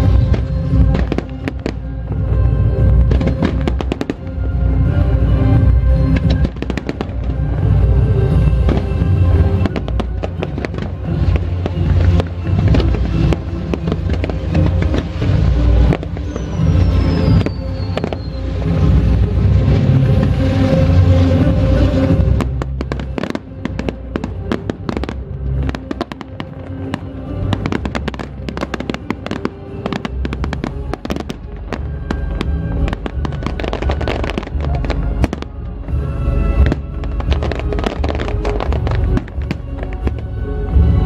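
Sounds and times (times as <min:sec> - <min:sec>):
fireworks bursting and crackling: 0:00.0 - 0:41.0
loud show music with low beat: 0:00.0 - 0:41.0.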